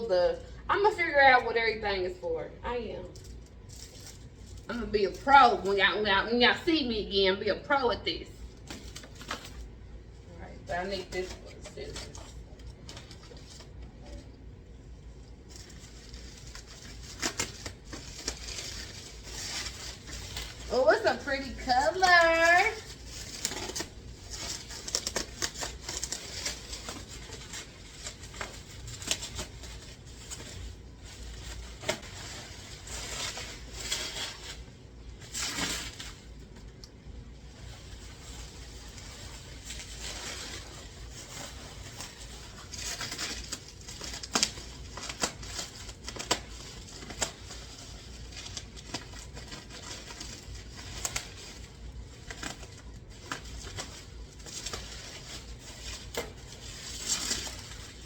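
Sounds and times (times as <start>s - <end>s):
packaging rustling and tearing: 3.0s - 5.8s, 8.3s - 9.8s, 10.7s - 58.0s.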